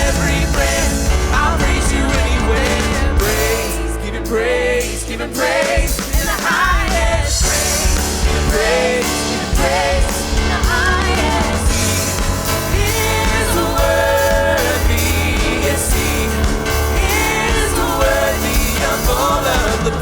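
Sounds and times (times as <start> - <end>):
live band playing: 0.0 - 20.0
person singing: 0.0 - 20.0
steady bass line: 0.0 - 20.0.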